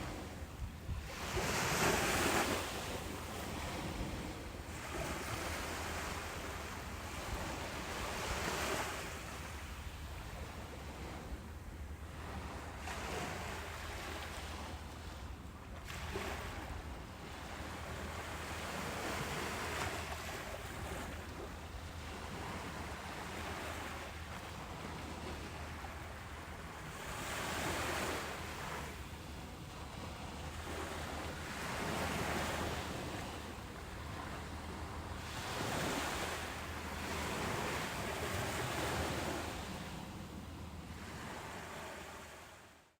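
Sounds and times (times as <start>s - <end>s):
ocean waves breaking on beach: 0.0s - 42.8s
low rumble of surf: 0.0s - 43.0s.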